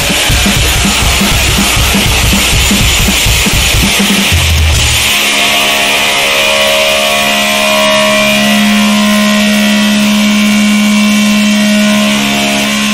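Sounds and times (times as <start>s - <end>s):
chainsaw running at high revs: 0.0s - 12.9s.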